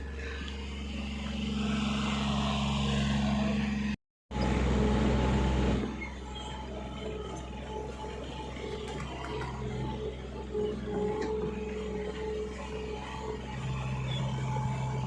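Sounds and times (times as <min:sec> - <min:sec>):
backhoe diesel engine running: 0:00.0 - 0:15.0.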